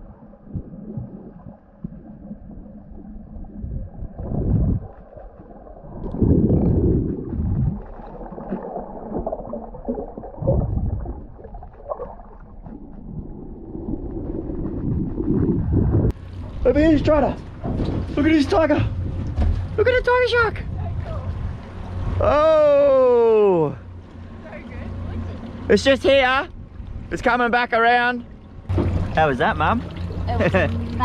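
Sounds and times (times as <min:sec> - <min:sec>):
water sloshing and gurgling: 0:00.0 - 0:22.6, 0:23.7 - 0:31.0.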